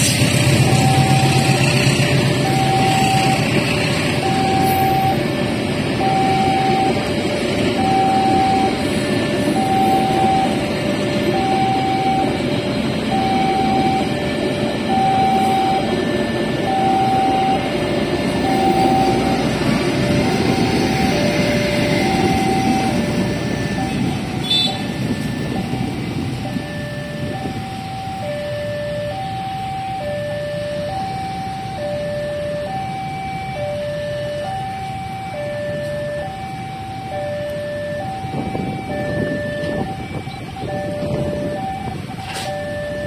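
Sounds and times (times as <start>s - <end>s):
train coaches rumbling on rails: 0.0s - 43.0s
level crossing two-tone alarm: 0.5s - 43.0s.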